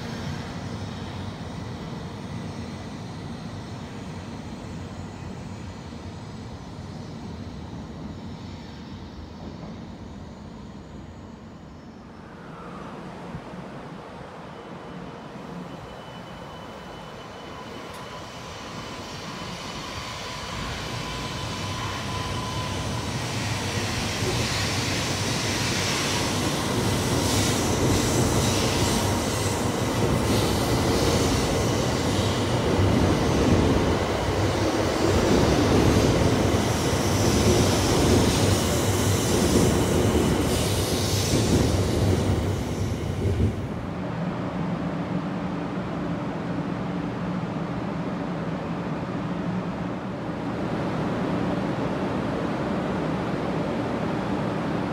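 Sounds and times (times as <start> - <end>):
train wheel and track noise: 0.0 - 54.9.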